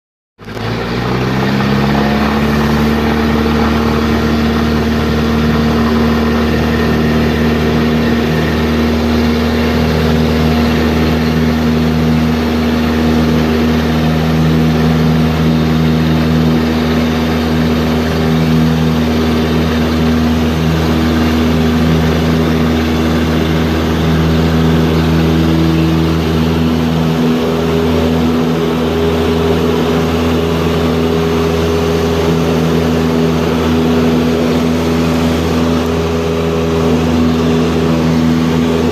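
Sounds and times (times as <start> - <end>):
propeller plane engine droning: 0.4 - 38.9.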